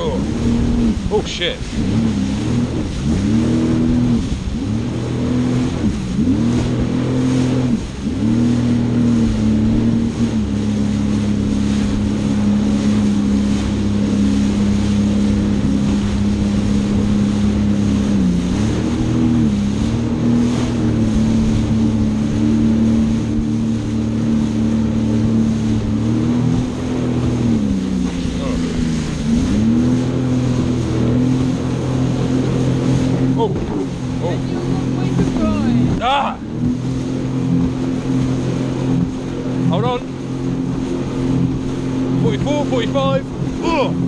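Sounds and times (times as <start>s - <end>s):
jet ski engine running: 0.0s - 44.0s
rush of wind and water: 0.0s - 44.0s.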